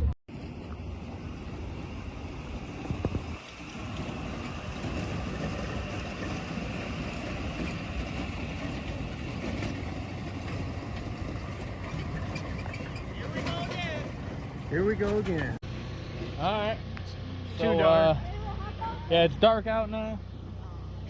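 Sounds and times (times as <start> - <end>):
vehicle engines droning: 0.0 - 21.0.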